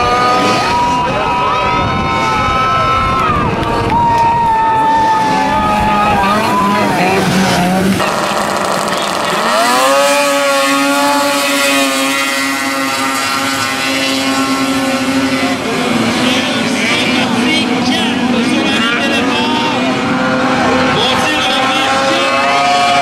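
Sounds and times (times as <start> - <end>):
snowmobile engines at high revs: 0.0 - 23.0.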